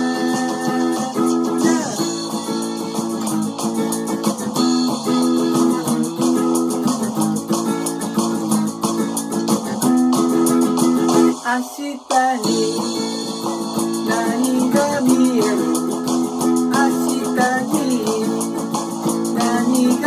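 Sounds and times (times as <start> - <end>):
strummed guitar chords: 0.0 - 20.0.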